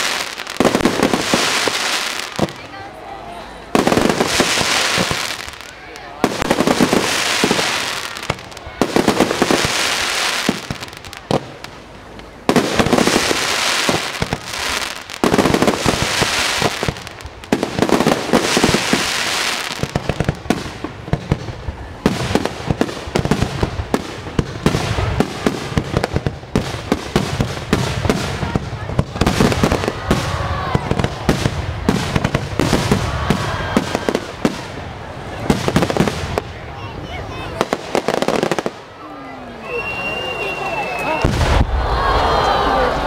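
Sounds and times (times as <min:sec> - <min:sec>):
fireworks crackling bangs: 0:00.0 - 0:42.3.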